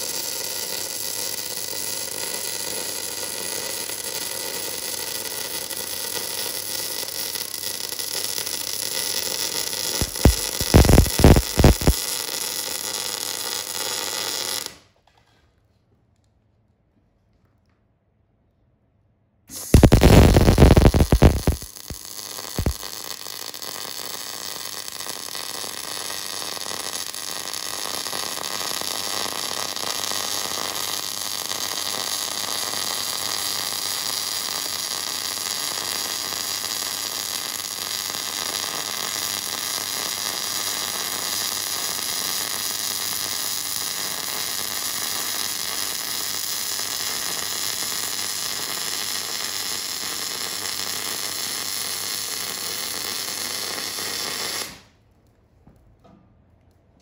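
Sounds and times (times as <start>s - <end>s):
welding arc crackling and hissing: 0.0s - 14.8s, 19.5s - 54.9s.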